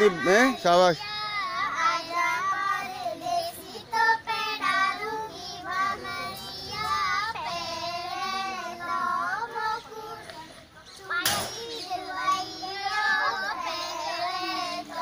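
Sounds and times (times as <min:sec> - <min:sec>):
girl singing folk song: 0:00.0 - 0:15.0.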